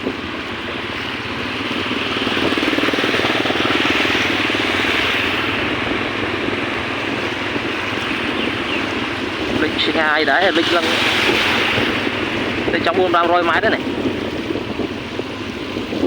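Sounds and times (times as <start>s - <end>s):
small boat engine running: 0.0s - 16.0s
water noise: 0.0s - 16.0s
wind noise: 0.0s - 16.0s.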